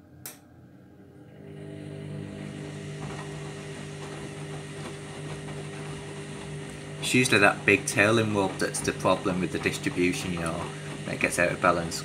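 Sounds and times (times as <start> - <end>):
washing machine drum motor hum: 1.3 - 12.0.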